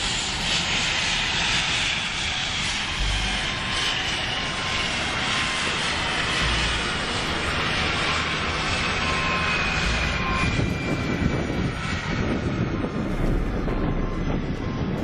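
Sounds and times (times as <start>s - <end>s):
airplane engines roaring and whining: 0.0s - 15.0s.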